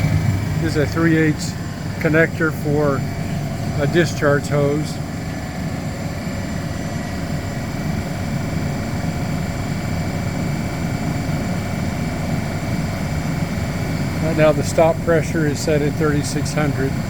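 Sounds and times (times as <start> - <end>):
gas compressor hum: 0.0 - 17.0.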